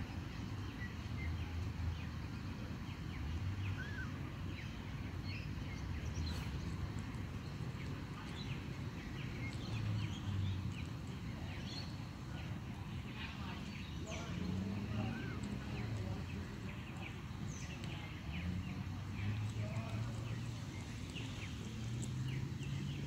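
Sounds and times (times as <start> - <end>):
birds chirping: 0.3 - 23.0.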